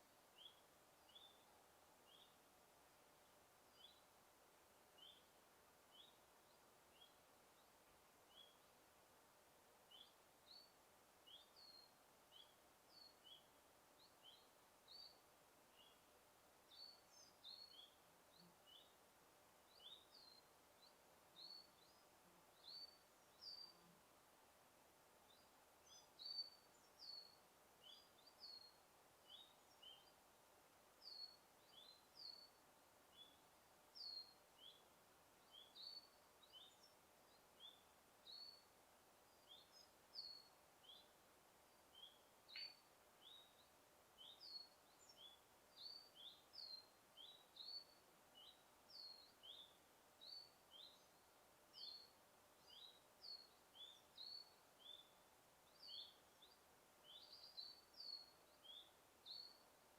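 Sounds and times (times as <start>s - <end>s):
soft forest air hiss: 0.0s - 59.9s
bird chirping: 0.4s - 2.4s, 3.7s - 4.2s, 4.9s - 8.7s, 9.9s - 16.1s, 16.7s - 19.0s, 19.7s - 24.0s, 25.3s - 30.2s, 31.0s - 59.7s.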